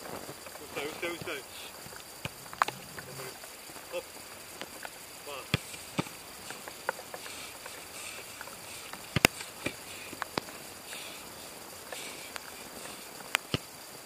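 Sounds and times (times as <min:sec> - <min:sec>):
faint steady hiss: 0:00.0 - 0:14.0
footballs being kicked: 0:00.1 - 0:04.0, 0:04.6 - 0:11.3, 0:13.0 - 0:13.7.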